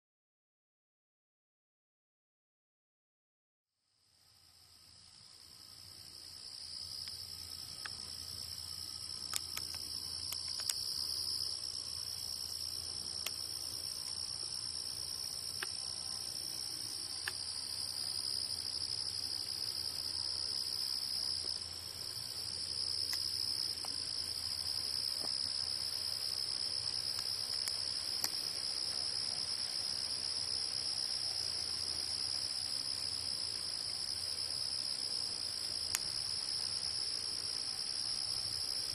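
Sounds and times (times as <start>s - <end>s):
insects singing: 5.3s - 38.9s.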